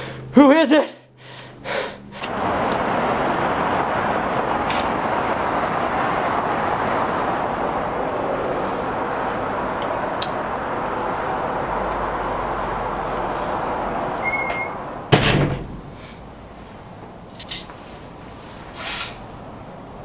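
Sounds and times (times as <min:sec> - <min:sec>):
steady rushing noise: 0:01.5 - 0:20.0.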